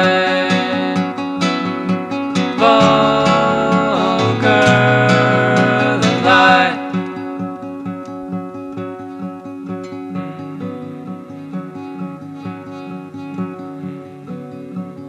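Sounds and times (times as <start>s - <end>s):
song with plucked guitar: 0.0s - 15.0s.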